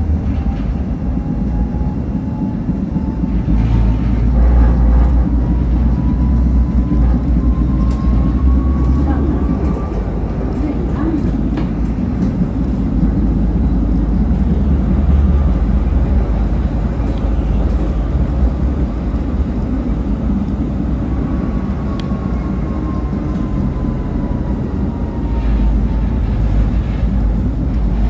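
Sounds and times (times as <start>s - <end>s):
tram wheels rumbling on rails: 0.0s - 28.0s.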